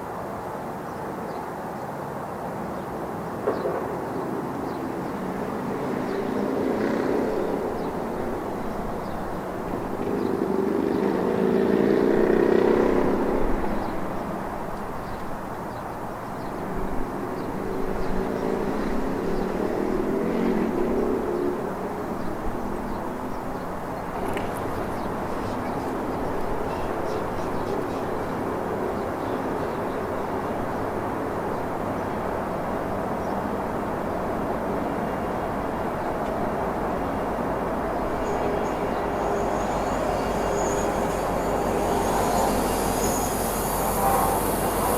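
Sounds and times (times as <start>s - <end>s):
freight train rumbling past: 3.9s - 44.9s
diesel locomotive engine hum: 4.9s - 44.9s.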